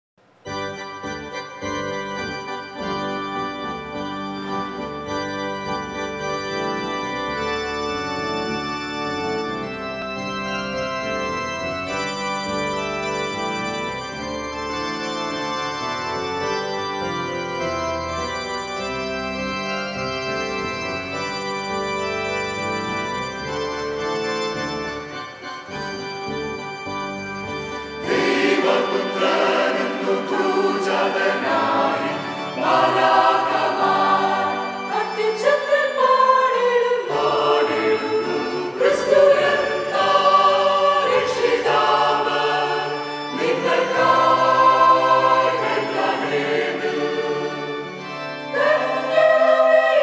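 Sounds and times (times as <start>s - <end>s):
electronic organ playing chords: 0.4s - 50.0s.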